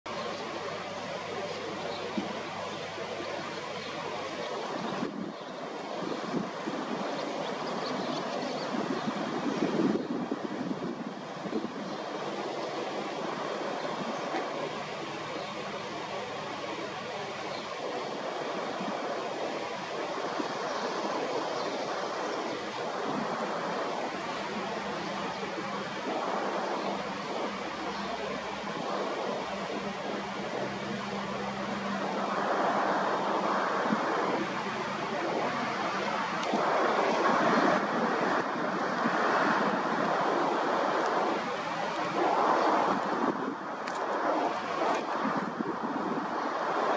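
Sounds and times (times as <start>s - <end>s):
ocean surf on beach: 0.1s - 46.9s
wind buffeting microphone: 0.1s - 46.9s.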